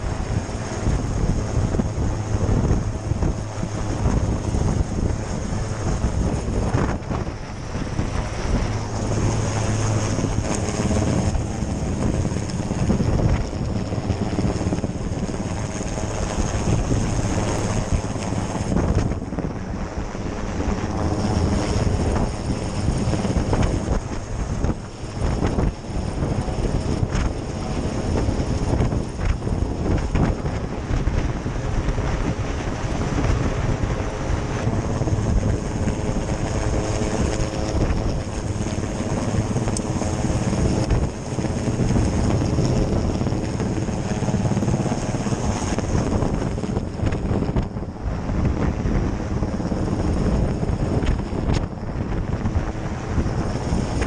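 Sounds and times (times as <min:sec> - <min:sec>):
helicopter rotor and engine: 0:00.0 - 0:54.0
wind on microphone: 0:00.0 - 0:54.0.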